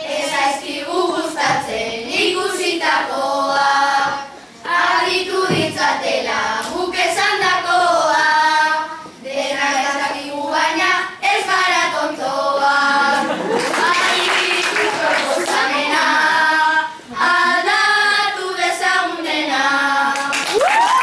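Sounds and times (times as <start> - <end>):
children singing: 0.0 - 20.6.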